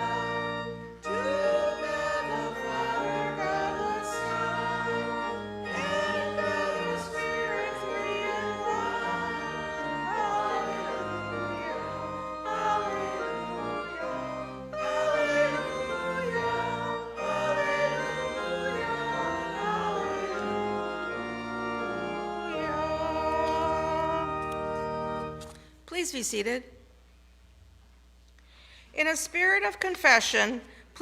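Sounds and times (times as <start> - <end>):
congregation singing a hymn: 0.0 - 25.4
organ accompaniment: 0.0 - 25.8.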